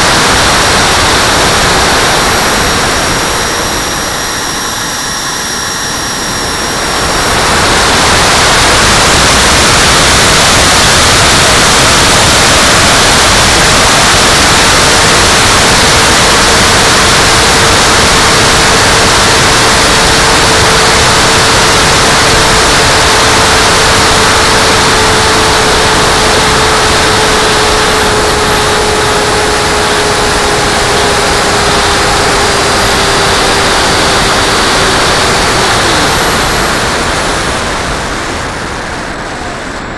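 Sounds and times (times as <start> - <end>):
electric ducted fan rushing: 0.0 - 39.9
faint whine: 0.0 - 39.9.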